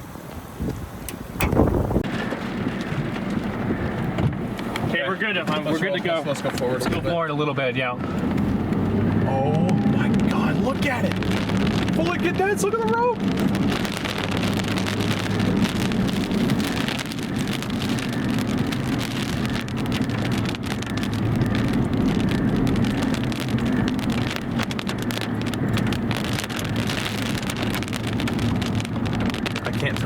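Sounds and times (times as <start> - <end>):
engine and road noise: 0.0 - 30.0
rain ticking on vehicle: 0.0 - 30.0.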